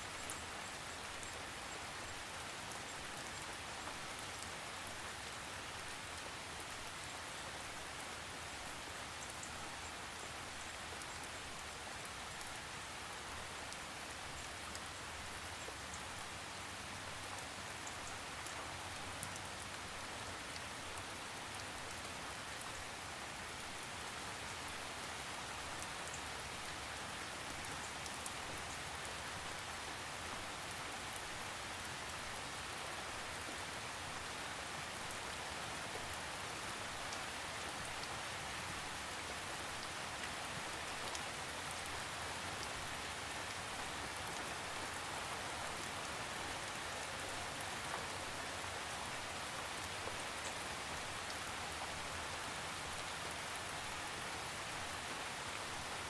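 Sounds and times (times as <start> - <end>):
steady rain falling: 0.0 - 56.0
raindrops ticking on a surface: 0.1 - 56.0.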